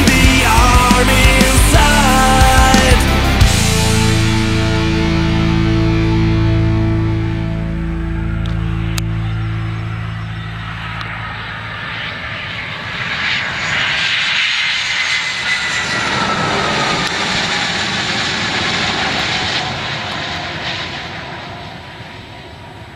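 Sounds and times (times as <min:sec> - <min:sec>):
jet engines rolling past: 0:00.0 - 0:22.9.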